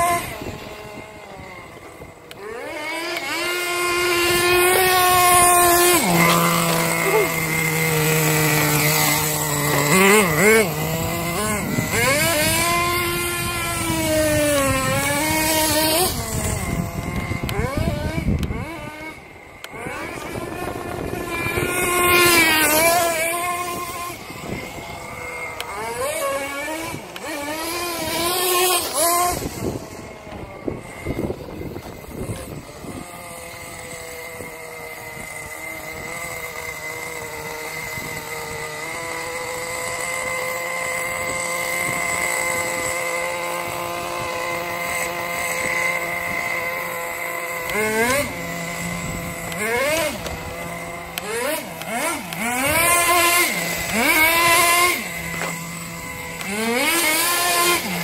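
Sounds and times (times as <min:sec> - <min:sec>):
rc car motor whining: 0:00.0 - 0:58.0.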